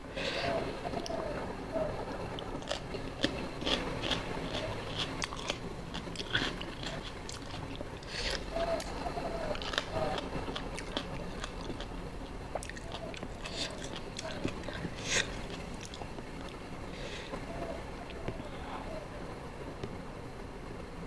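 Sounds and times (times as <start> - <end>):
chewing and crunching food: 0.1 - 19.0.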